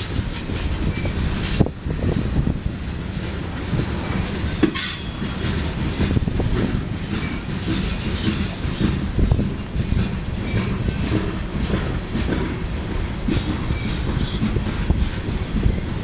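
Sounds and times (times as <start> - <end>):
clickety-clack over rail joints: 0.0 - 16.0
train wheels rumbling on rail: 0.0 - 16.0.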